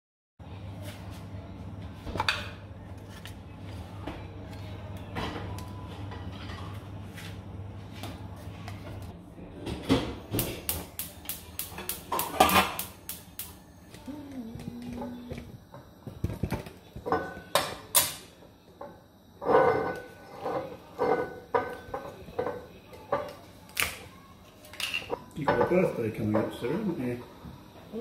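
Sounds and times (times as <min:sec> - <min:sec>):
steady low hum: 0:00.4 - 0:24.4.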